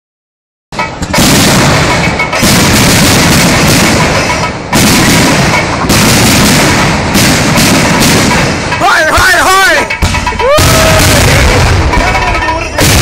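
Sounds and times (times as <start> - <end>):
fireworks bangs and crackling: 0.7 - 13.0.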